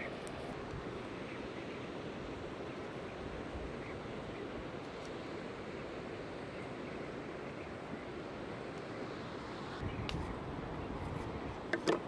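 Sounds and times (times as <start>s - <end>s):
river water: 0.0s - 12.0s
wind: 0.0s - 12.0s.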